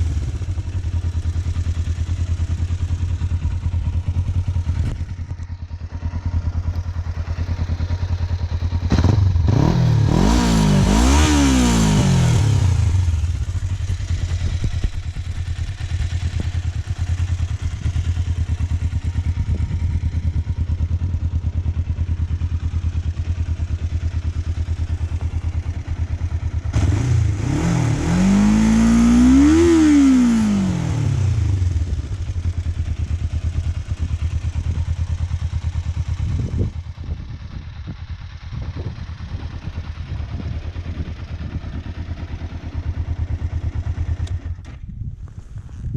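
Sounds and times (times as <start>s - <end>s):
motorcycle engine idling and revving: 0.0s - 45.9s.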